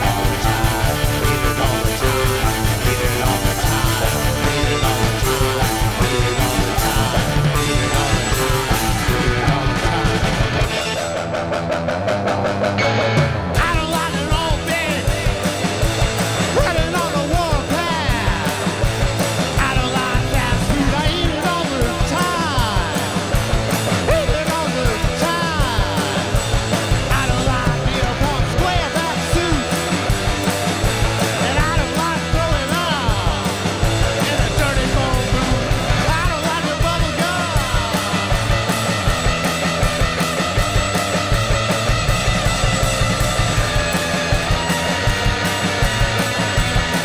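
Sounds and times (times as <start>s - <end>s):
bending electric guitar lines: 0.0s - 47.0s
rock band playing live: 0.0s - 47.0s.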